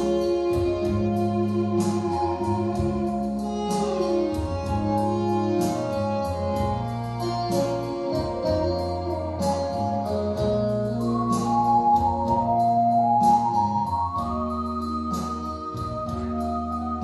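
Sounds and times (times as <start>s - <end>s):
light regular beat: 0.0s - 17.0s
organ-like keyboard chords: 0.0s - 17.0s.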